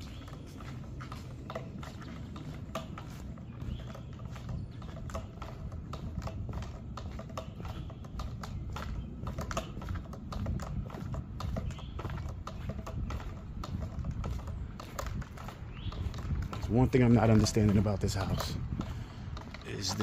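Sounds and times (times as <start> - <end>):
footsteps on concrete: 0.0 - 20.0.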